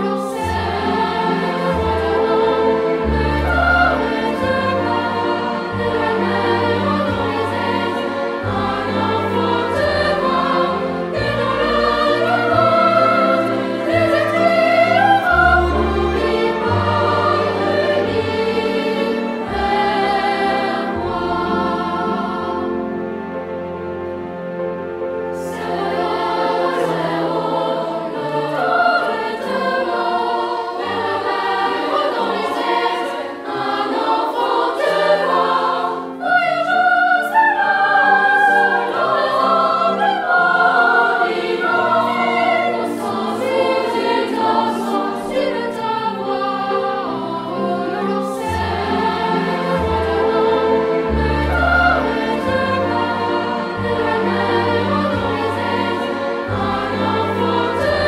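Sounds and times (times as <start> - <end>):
choir singing with instruments: 0.0 - 58.0.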